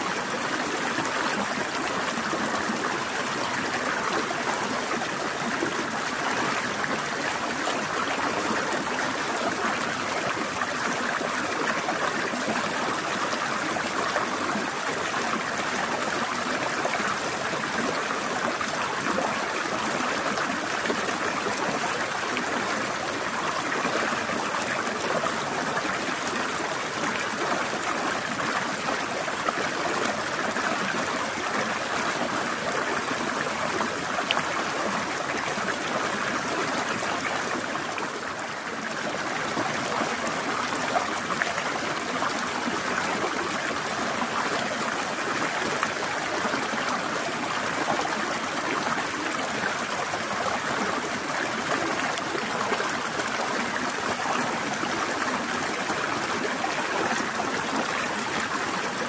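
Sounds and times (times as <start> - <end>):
stream flowing and trickling: 0.0 - 59.0.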